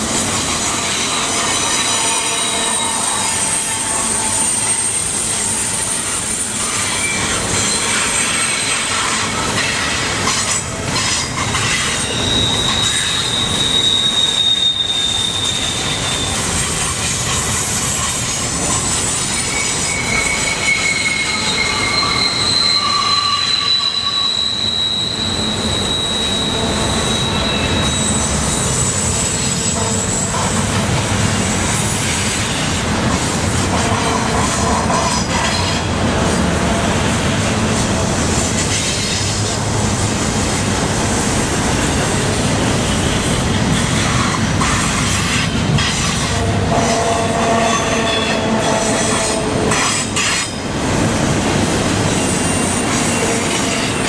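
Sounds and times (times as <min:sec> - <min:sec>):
wheels squealing: 0:00.0 - 0:40.0, 0:41.7 - 0:54.0
rumble of wheels on rail: 0:00.0 - 0:54.0.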